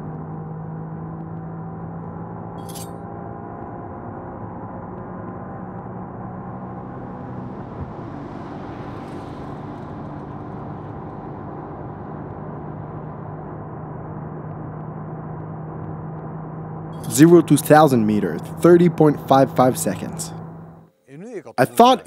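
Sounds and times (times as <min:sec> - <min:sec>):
car engine at high revs: 0:00.0 - 0:20.7.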